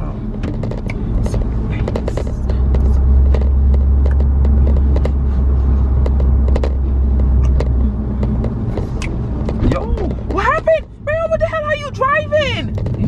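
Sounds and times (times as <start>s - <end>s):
car driving rumble from cabin: 0.0s - 13.0s.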